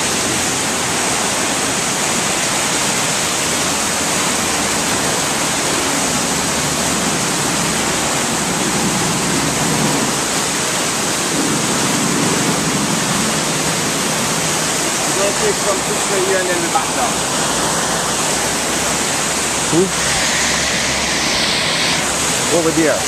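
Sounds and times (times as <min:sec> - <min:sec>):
white water rushing over rocks: 0:00.0 - 0:23.0.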